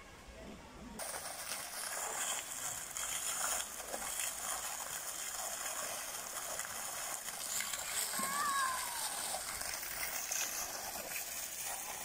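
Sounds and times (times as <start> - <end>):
fountain water splashing: 1.0 - 12.0.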